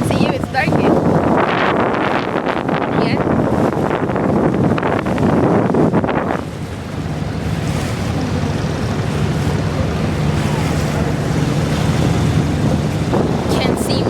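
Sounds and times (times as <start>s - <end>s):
boat engine droning: 0.0s - 14.0s
water rushing past hull: 0.0s - 14.0s
wind buffeting microphone: 0.0s - 14.0s.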